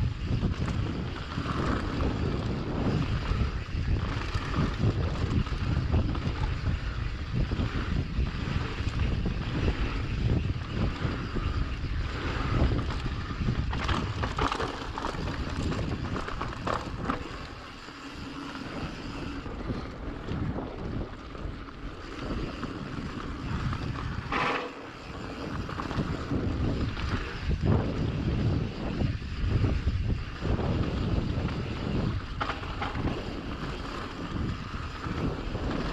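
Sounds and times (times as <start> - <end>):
bike rattling over trail: 0.0 - 35.9
wind buffeting microphone: 0.0 - 35.9.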